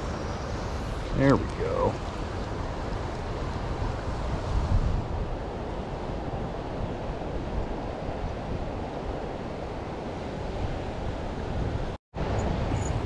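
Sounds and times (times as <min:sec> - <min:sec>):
river current rushing: 0:00.0 - 0:13.0
wind buffeting microphone: 0:00.0 - 0:13.0.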